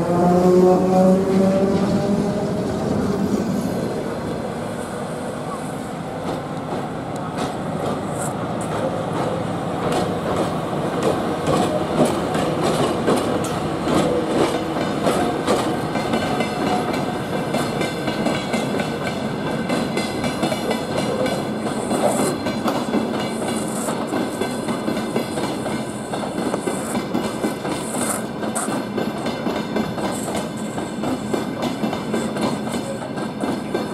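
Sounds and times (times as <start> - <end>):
train wheels clattering on rails: 6.2 - 33.9.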